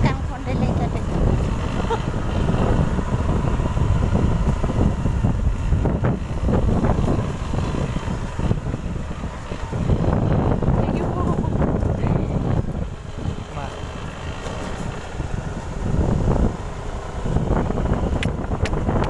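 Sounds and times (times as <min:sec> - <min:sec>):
motorcycle engine running: 0:00.0 - 0:19.0
tyres on rough dirt track: 0:00.0 - 0:19.0
wind buffeting microphone: 0:00.0 - 0:19.0.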